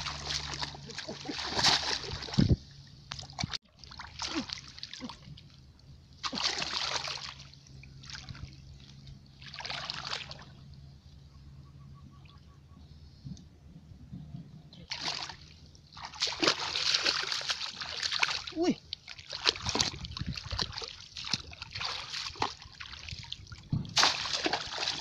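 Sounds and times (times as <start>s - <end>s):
muddy water splashing: 0.0s - 10.8s, 14.8s - 25.0s.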